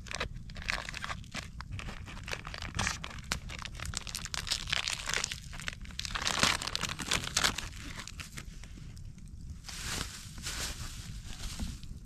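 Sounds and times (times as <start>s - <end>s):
dry material crunching and rustling: 0.0s - 12.0s.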